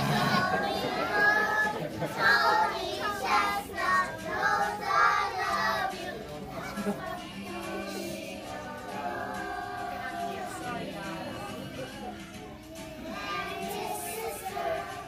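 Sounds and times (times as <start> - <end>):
young children singing together: 0.0 - 15.0.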